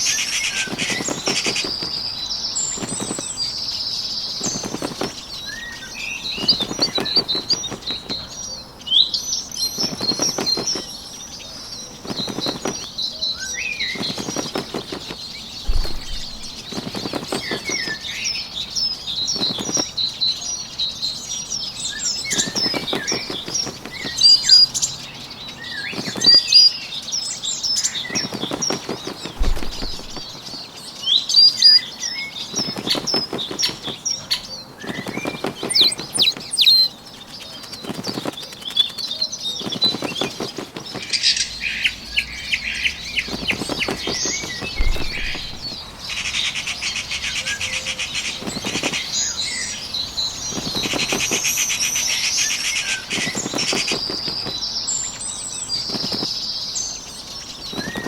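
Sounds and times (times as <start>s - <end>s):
fluttering wingbeats: 0.0s - 20.5s, 21.2s - 58.0s
songbirds chirping: 0.0s - 58.0s.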